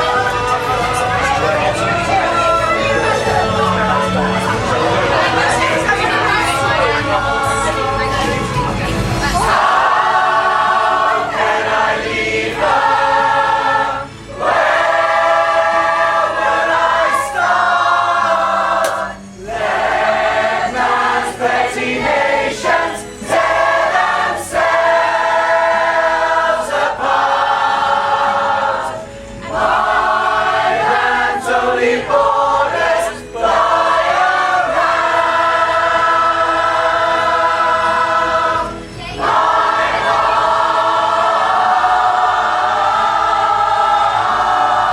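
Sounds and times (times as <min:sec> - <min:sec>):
pop choir singing: 0:00.0 - 0:44.9.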